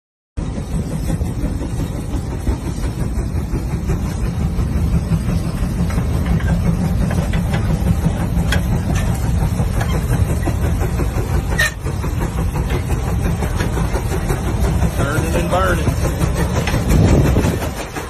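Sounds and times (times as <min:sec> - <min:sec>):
tractor engine rumbling: 0:00.4 - 0:18.0.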